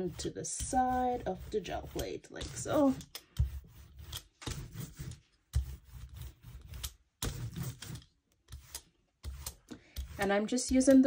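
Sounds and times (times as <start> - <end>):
paint roller rolling through paint: 0.0 - 11.0.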